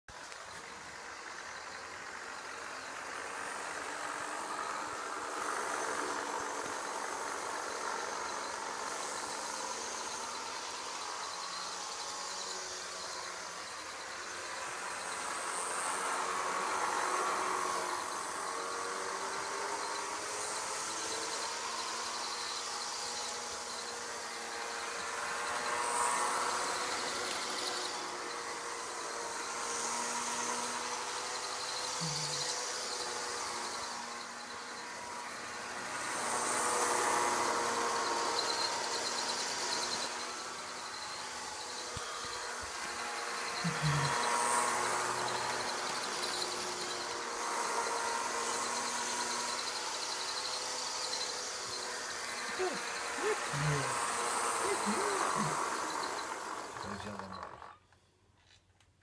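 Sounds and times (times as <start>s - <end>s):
toy train motor whirring: 0.1s - 59.0s
wheels on rails: 0.1s - 59.0s.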